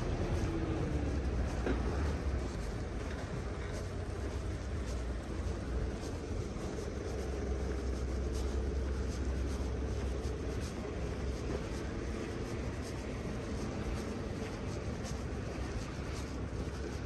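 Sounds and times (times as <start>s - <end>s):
faint footsteps: 0.0s - 17.0s
road traffic rumble: 0.0s - 17.0s.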